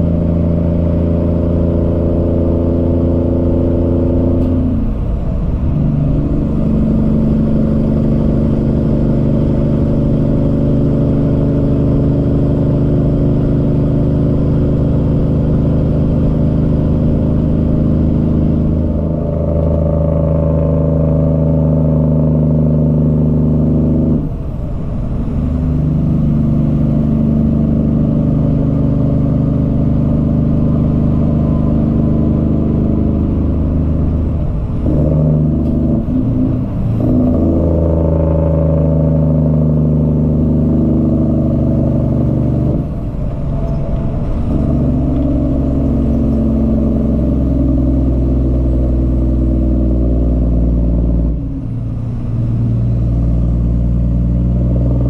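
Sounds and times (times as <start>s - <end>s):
truck diesel engine pulling: 0.0s - 55.0s.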